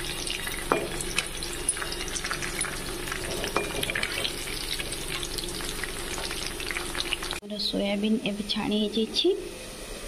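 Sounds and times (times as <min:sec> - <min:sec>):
food deep-frying in hot oil: 0:00.0 - 0:10.0.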